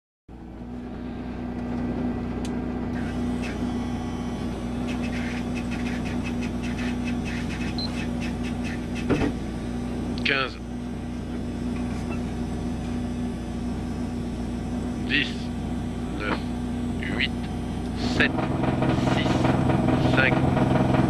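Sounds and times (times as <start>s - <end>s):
car engine idling: 0.3s - 21.0s.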